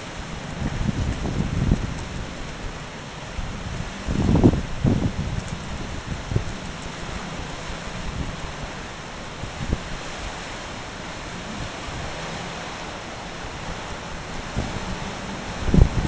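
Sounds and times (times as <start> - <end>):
strong wind rushing: 0.0 - 2.6, 3.3 - 16.0
wind buffeting microphone: 0.0 - 16.0.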